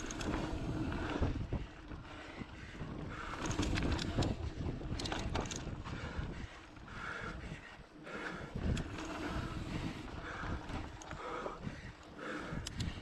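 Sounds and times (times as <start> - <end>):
wind on microphone: 0.0 - 7.7, 8.4 - 13.0
bike rattling clicks: 0.0 - 13.0.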